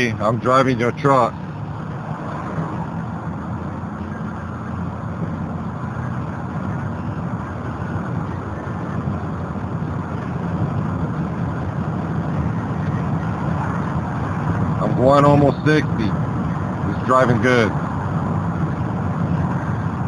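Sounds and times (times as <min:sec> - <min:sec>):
truck engine and road noise rumble: 0:00.0 - 0:20.0.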